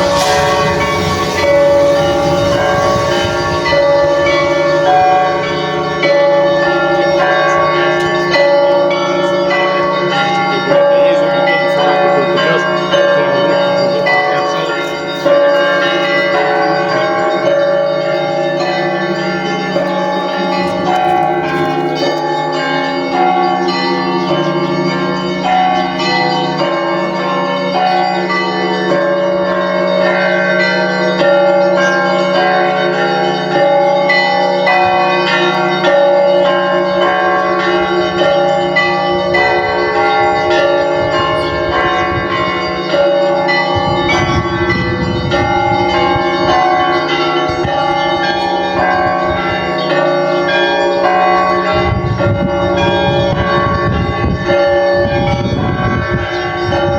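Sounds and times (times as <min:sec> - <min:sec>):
church bells pealing: 0:00.0 - 0:56.9
deep bell hum: 0:00.0 - 0:56.9.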